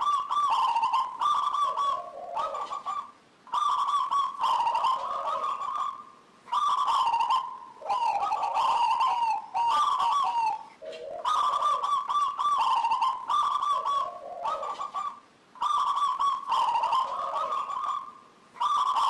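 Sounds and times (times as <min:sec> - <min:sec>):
dove trilling coos: 0:00.0 - 0:19.0.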